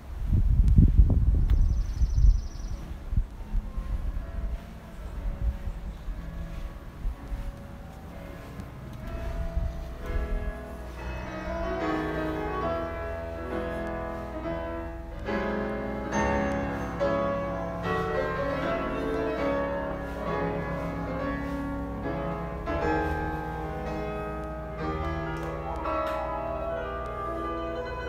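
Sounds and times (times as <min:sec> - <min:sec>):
solo piano piece: 0:01.4 - 0:28.0.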